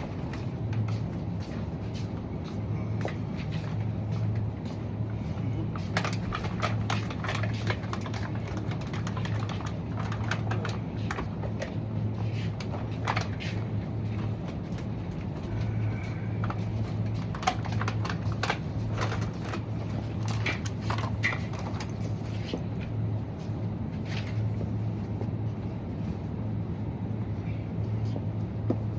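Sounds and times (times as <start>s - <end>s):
low hum: 0.0s - 28.9s.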